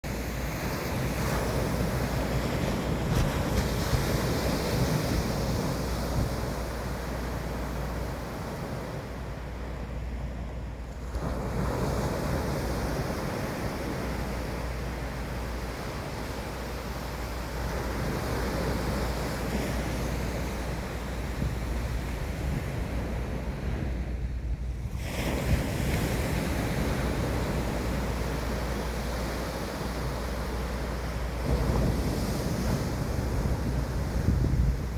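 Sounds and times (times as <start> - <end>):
wind rumbling on microphone: 0.0 - 34.9
sea waves washing: 0.1 - 34.9.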